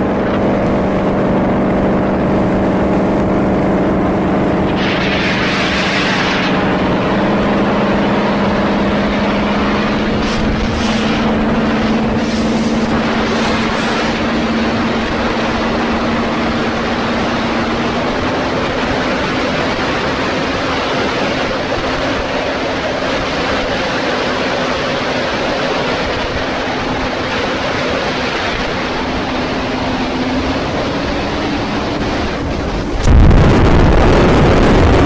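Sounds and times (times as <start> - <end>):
boat engines droning: 0.0 - 35.0
rushing water: 0.0 - 35.0
wind buffeting microphone: 0.0 - 35.0.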